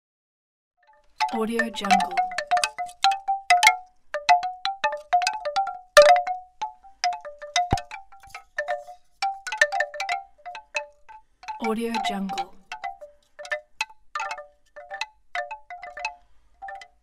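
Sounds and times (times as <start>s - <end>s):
bamboo wind chimes knocking: 0.8s - 17.0s.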